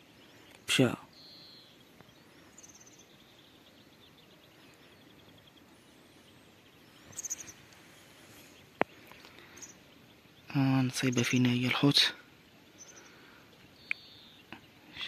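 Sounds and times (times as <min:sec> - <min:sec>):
faint outdoor ambience: 0:00.0 - 0:15.0
small bird chirps: 0:00.0 - 0:15.0.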